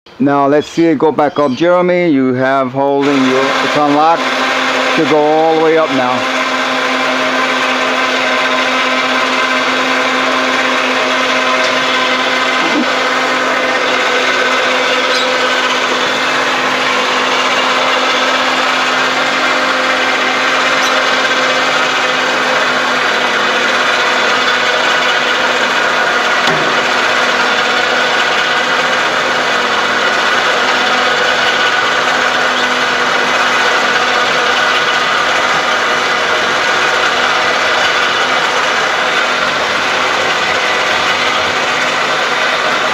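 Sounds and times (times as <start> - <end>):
tower lift motor humming: 0.1 - 42.9.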